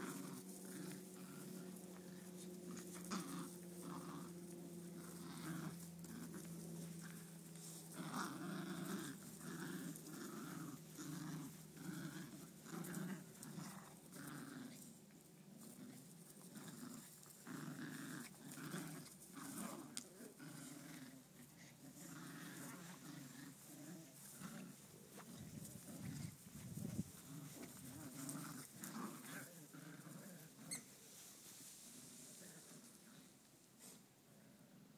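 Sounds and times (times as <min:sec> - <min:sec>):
dogs growling in play: 0:00.0 - 0:34.9.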